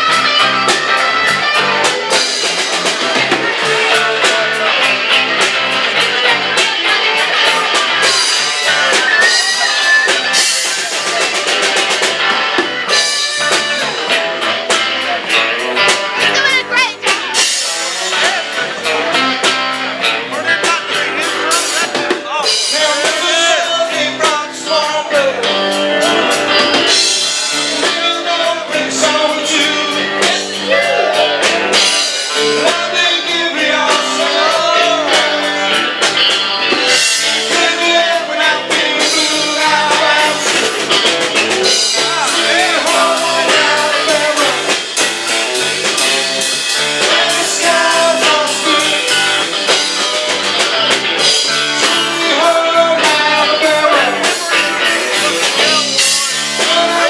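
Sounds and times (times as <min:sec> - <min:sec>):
drum kit: 0:00.0 - 0:57.0
electric guitar: 0:00.0 - 0:57.0.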